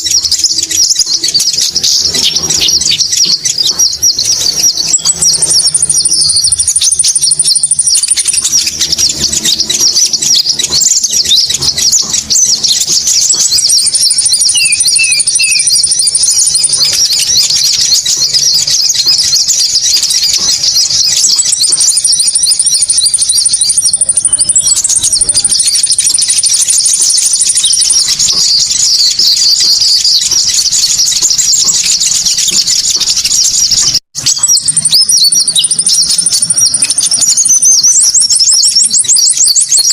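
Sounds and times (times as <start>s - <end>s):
rapid high-pitched bird chirps: 0.0s - 39.9s
thin bird trill: 0.0s - 39.9s.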